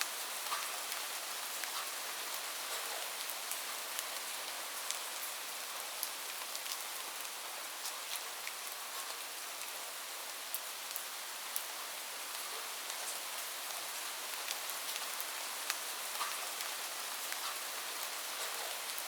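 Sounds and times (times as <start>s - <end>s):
steady rain hissing: 0.0s - 19.0s.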